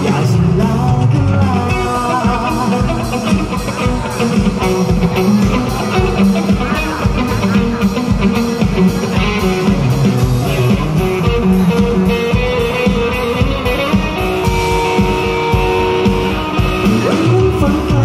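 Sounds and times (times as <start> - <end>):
drum beat: 0.0 - 18.0
electric guitar sustained notes: 0.0 - 18.0.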